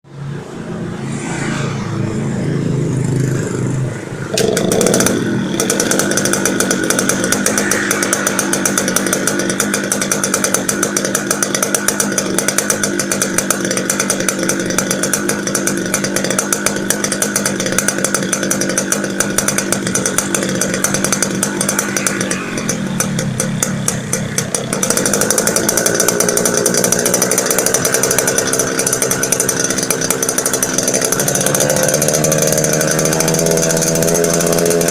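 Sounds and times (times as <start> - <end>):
two-stroke engine idling roughly: 4.2 - 34.9.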